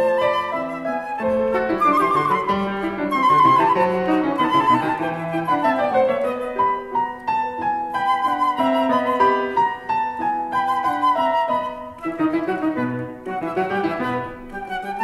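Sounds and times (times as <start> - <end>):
instrumental melody: 0.0 - 15.0
soft accompaniment: 0.0 - 15.0.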